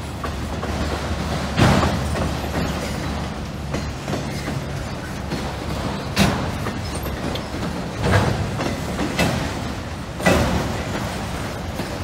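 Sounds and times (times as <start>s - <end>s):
train wheels clacking: 0.0s - 12.0s.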